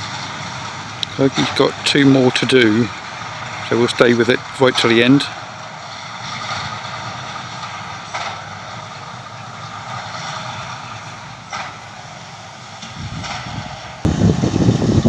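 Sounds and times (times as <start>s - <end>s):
tractor and baler droning: 0.0s - 15.0s.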